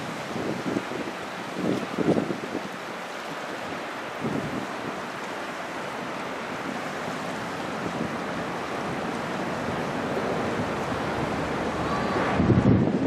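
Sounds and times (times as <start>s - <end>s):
lake water splashing and lapping: 0.0s - 12.6s
wind buffeting microphone: 0.0s - 13.0s.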